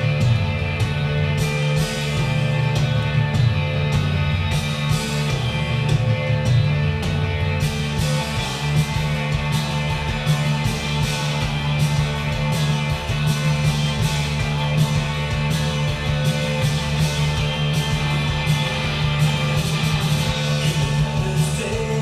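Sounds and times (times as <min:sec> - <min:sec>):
instrumental rock music with guitar: 0:00.0 - 0:22.0.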